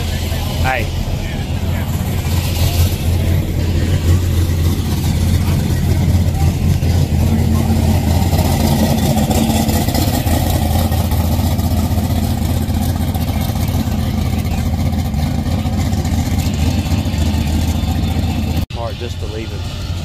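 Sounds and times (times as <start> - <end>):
car engine rumbling driving past: 0.0 - 20.0.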